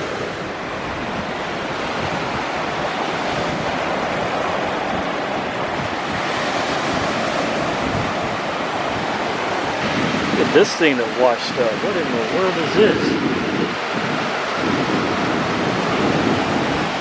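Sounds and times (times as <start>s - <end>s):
surf washing over shore: 0.0s - 17.0s
wind on microphone: 0.0s - 17.0s.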